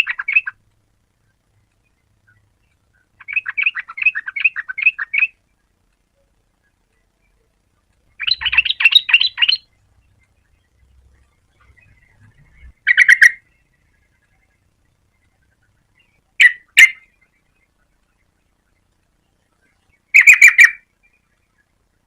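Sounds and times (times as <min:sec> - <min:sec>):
bird singing high chattering notes: 0:00.0 - 0:00.6, 0:01.8 - 0:05.5, 0:08.1 - 0:21.8.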